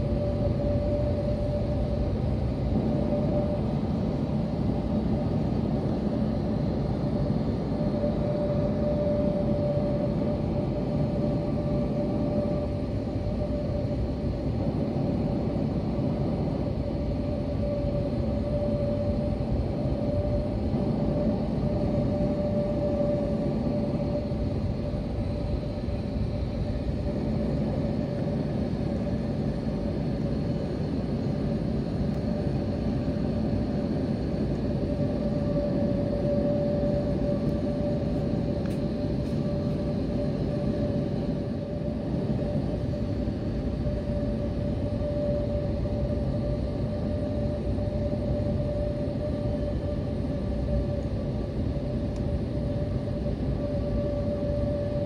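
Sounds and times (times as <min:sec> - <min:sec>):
airplane cabin engine rumble: 0:00.0 - 0:55.0
constant mid-pitched whine: 0:00.0 - 0:55.0.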